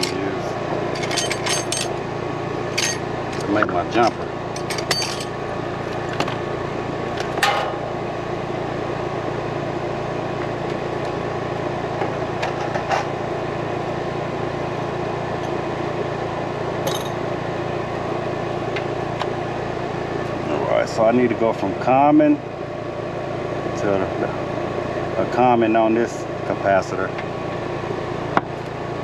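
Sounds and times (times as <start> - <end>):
air conditioner unit humming: 0.0 - 29.0.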